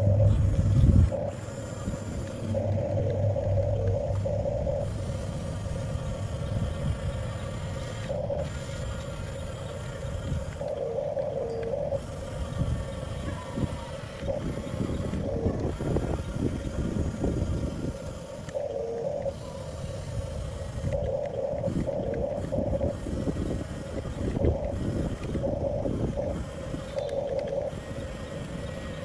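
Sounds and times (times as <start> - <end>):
electric motors whining: 0.0 - 29.0
low rough rumbling: 0.0 - 29.0.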